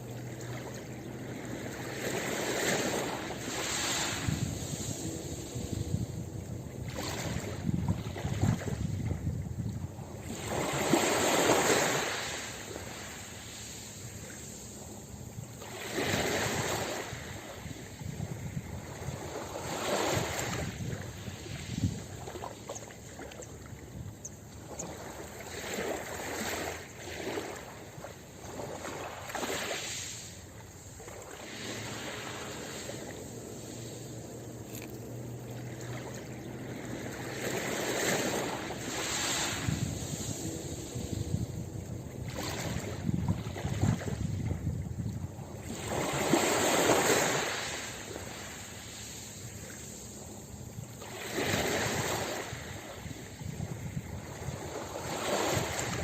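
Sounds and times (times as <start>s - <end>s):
ocean waves breaking on a beach: 0.0s - 56.0s.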